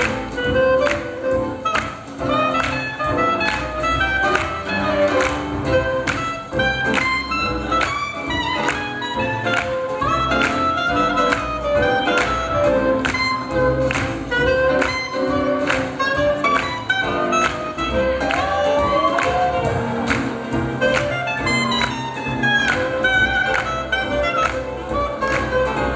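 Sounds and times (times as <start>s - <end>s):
drums steady beat: 0.0s - 25.9s
swing jazz band playing: 0.0s - 25.9s.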